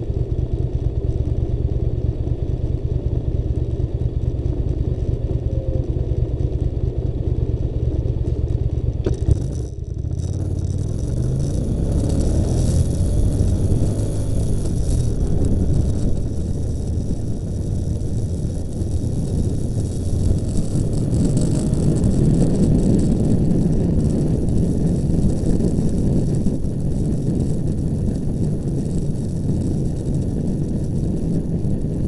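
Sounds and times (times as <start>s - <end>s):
car interior engine and tyre rumble: 0.0s - 32.0s.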